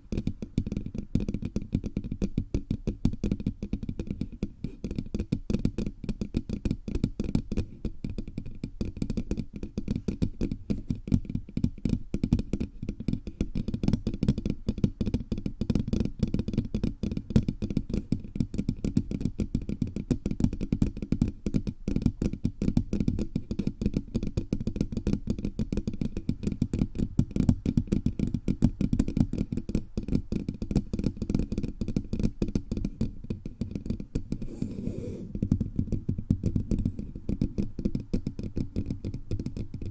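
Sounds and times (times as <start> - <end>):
fingertips tapping on microphone: 0.0 - 39.9.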